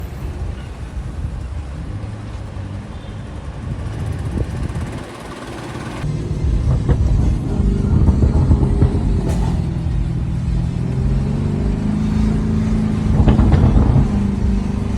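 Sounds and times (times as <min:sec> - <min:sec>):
car exhaust rumbling: 0:00.0 - 0:14.9.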